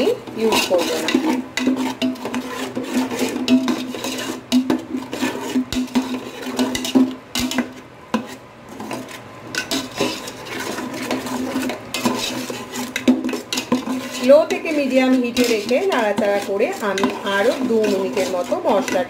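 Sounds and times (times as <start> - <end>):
metal spoon scraping a pot: 0.0 - 19.0
spice paste frying: 0.0 - 19.0.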